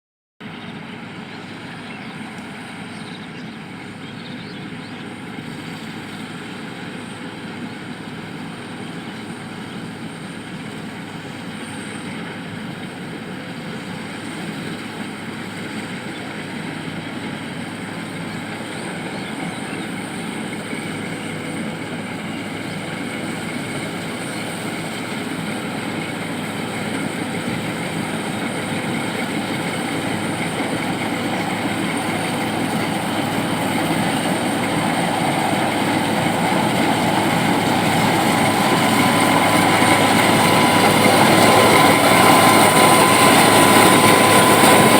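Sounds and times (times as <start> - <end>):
combine harvester mechanical drone: 0.4 - 44.9.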